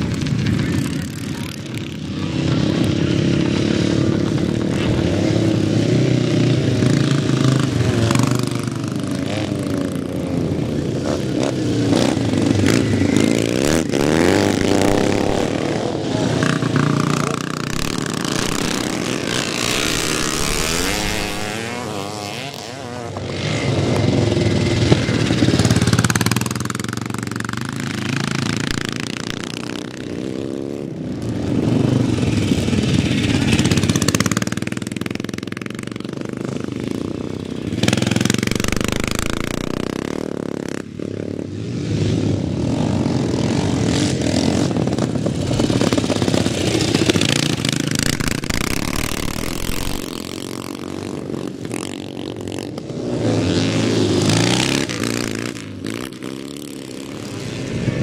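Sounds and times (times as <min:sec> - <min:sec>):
motorcycles racing past revving: 0:00.0 - 0:58.0.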